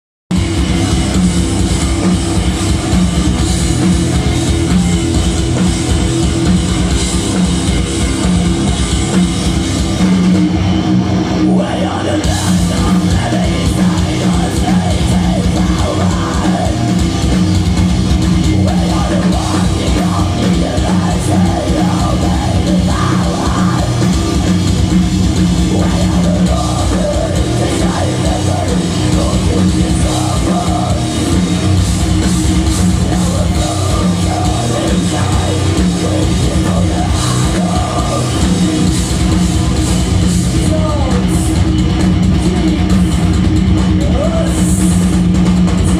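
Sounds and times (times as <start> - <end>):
heavy metal band playing live: 0.3 - 45.9.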